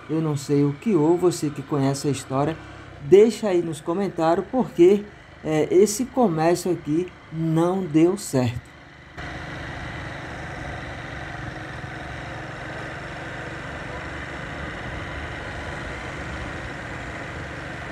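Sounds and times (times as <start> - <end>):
tyres on dirt road: 0.0 - 17.9
vehicle engine running: 0.0 - 17.9.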